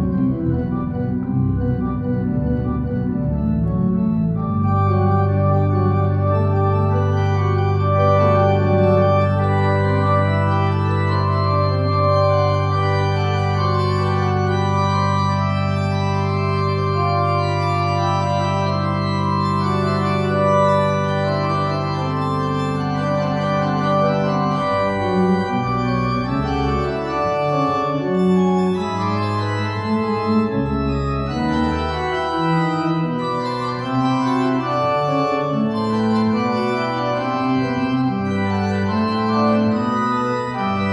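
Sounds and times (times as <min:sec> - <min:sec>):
church organ playing: 0:00.0 - 0:40.9.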